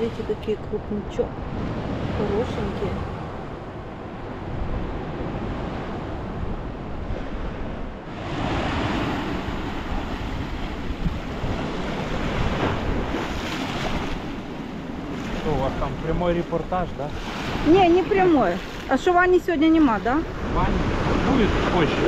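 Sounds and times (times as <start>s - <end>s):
wind buffeting microphone: 0.0s - 22.0s
surf washing onto shore: 1.4s - 22.0s.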